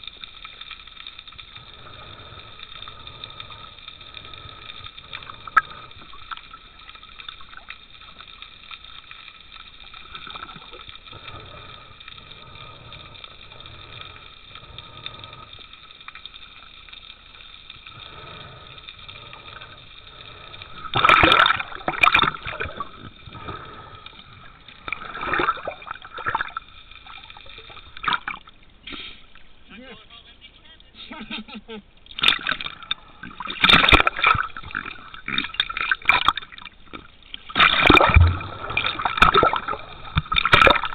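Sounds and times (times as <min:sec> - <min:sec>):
underwater bubbling and rushing: 0:00.0 - 0:29.7, 0:31.9 - 0:40.9.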